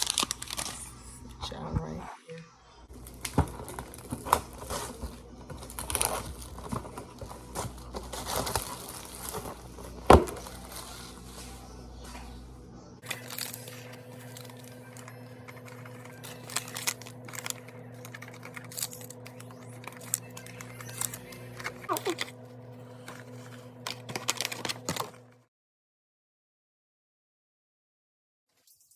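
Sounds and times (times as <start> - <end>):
packages rustling: 0.0 - 1.3, 2.9 - 25.3.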